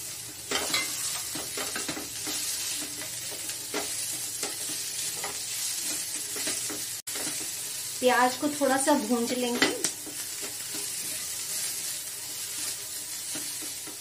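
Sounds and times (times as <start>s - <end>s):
vegetables sizzling in pan: 0.0s - 14.0s
spatula stirring in pan: 0.5s - 7.8s, 9.6s - 14.0s.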